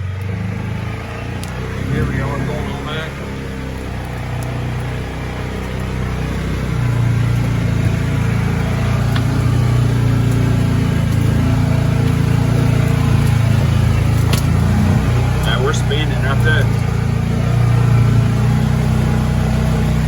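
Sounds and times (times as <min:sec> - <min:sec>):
engine pulling hard uphill: 0:00.0 - 0:20.0.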